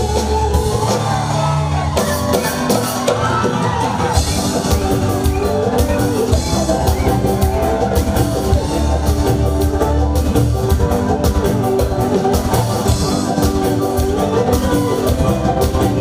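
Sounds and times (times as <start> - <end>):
drums beating a rhythm: 0.0 - 16.0
keyboard: 0.0 - 16.0.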